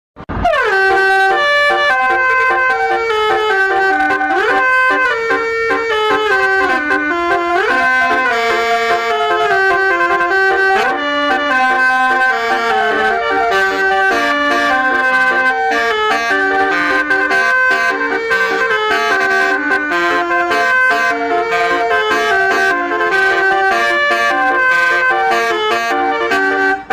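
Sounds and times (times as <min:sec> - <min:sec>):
bus horn playing a melody: 0:00.2 - 0:26.9.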